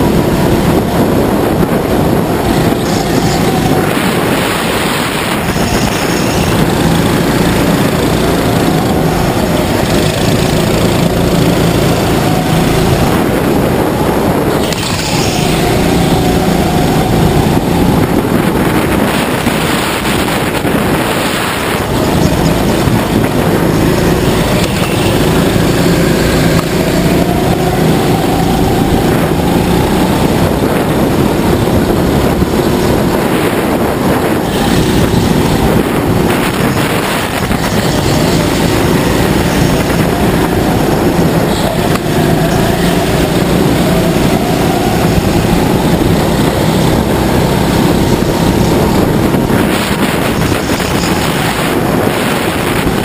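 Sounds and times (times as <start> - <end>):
go-kart engine racing: 0.0 - 53.0
wind buffeting microphone: 0.0 - 53.0.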